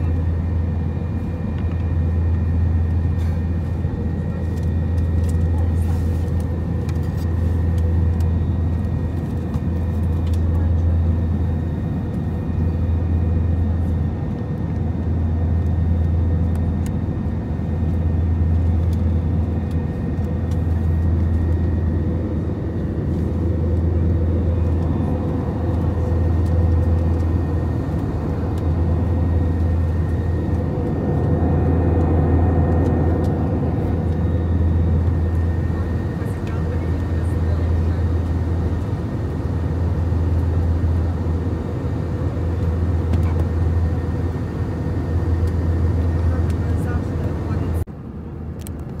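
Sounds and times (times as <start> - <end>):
strong low hum: 0.0 - 47.9
airplane cabin roar: 0.0 - 49.0.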